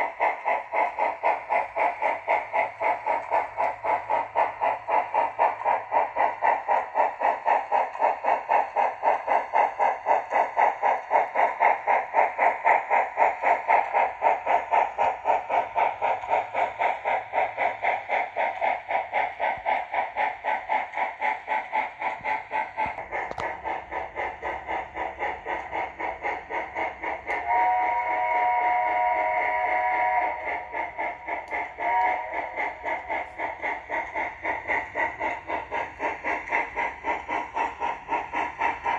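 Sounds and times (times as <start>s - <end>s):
model steam exhaust chuffs: 0.0s - 38.9s.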